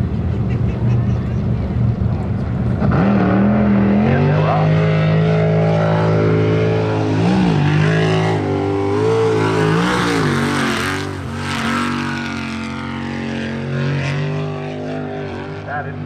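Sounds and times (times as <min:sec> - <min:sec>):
boat engine revving: 0:00.0 - 0:16.0.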